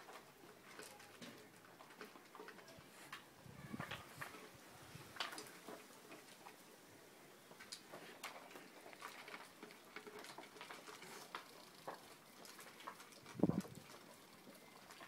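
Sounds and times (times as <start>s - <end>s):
dogs eating kibble from bowls: 0.0s - 6.7s, 7.4s - 15.0s.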